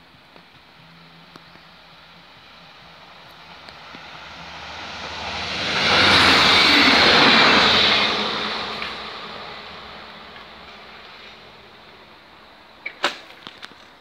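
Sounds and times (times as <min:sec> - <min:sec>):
train passing at speed: 0:00.0 - 0:12.8.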